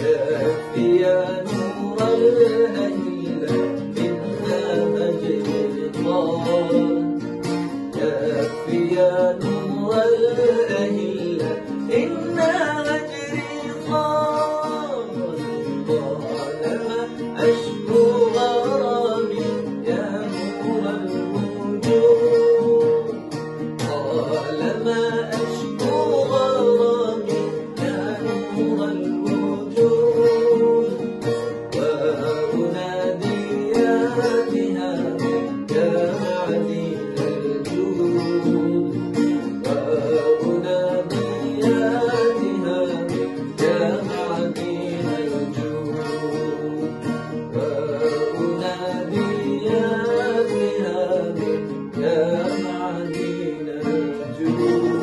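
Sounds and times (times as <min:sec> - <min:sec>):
long-necked lute melody: 0:00.0 - 0:55.0
strummed acoustic guitar: 0:00.0 - 0:55.0.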